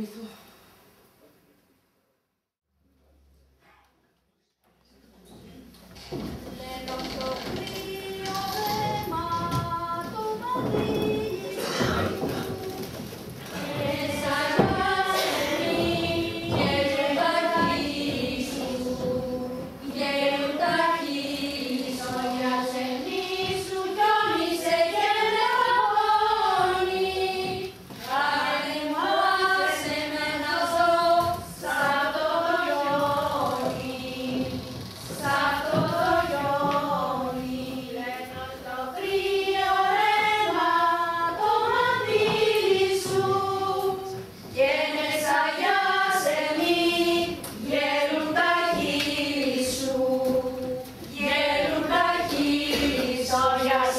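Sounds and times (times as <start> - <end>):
women's choir singing: 6.1 - 53.9.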